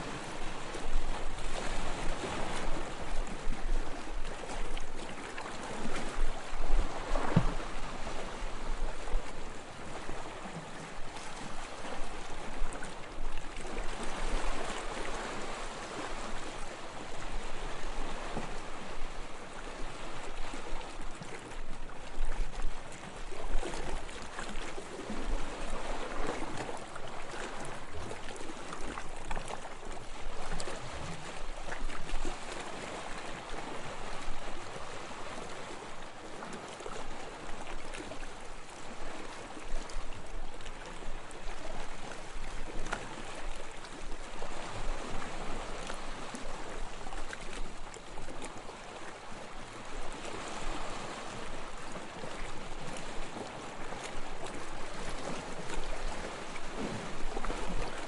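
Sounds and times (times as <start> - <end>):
sea water washing and lapping: 0.0 - 58.0.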